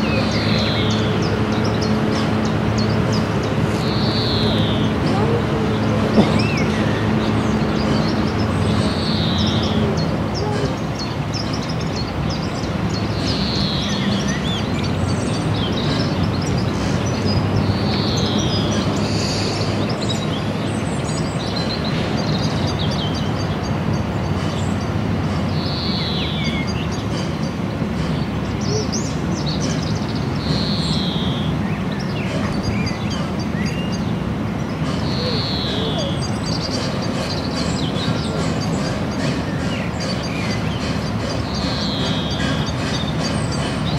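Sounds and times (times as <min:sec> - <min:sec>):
steam locomotive rumbling: 0:00.0 - 0:43.9.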